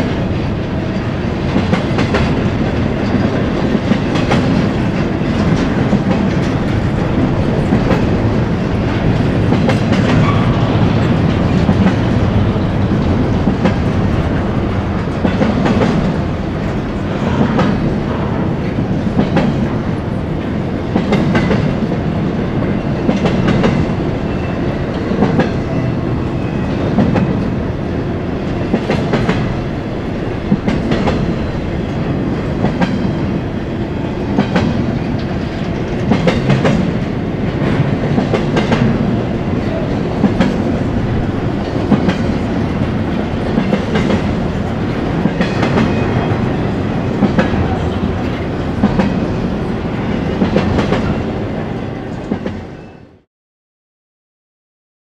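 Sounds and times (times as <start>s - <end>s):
freight train rumbling past: 0.0s - 53.3s.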